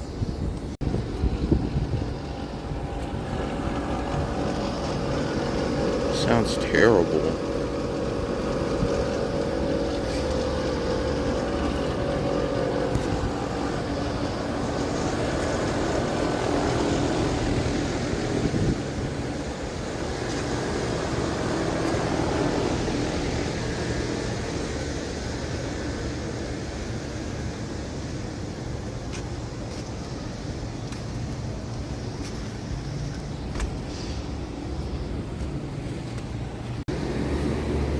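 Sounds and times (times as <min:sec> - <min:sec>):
compressors humming: 0:00.0 - 0:37.9
fans whirring: 0:00.0 - 0:37.9.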